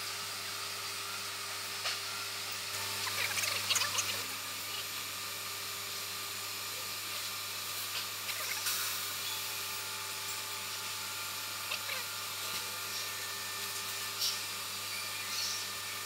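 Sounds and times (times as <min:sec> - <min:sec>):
laser machine hum and hiss: 0:00.0 - 0:16.0.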